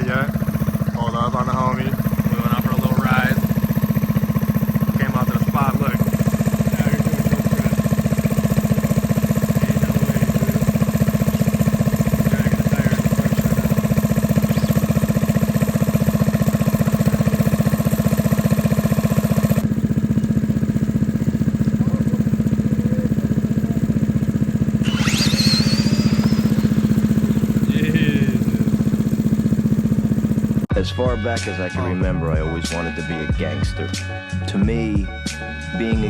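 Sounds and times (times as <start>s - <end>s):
car engine idling: 0.0s - 30.7s.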